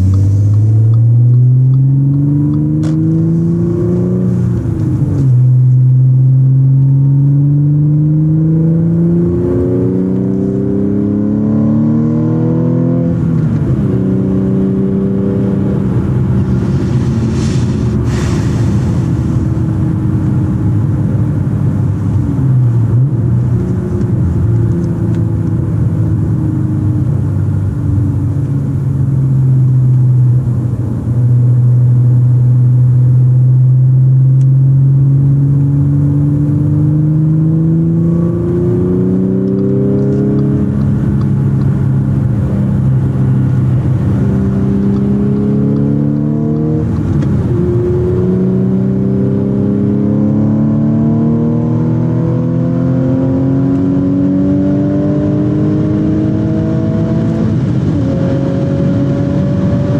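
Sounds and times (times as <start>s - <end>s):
car engine from inside cabin: 0.0s - 59.9s.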